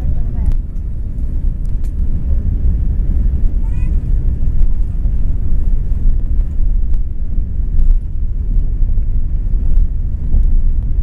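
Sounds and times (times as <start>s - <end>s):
airplane low rumble: 0.0s - 11.0s.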